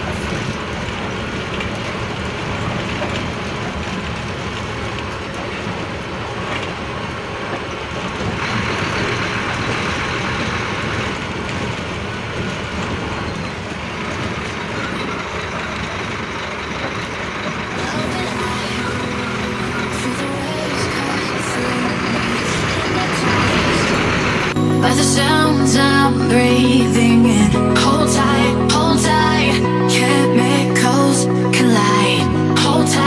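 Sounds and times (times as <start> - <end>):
bus diesel engine running: 0.0 - 33.0
road noise: 0.0 - 33.0.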